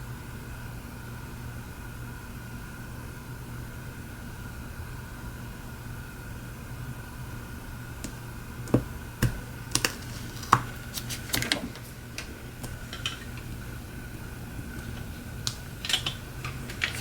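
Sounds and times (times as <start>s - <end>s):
steady hum: 3.1s - 17.0s.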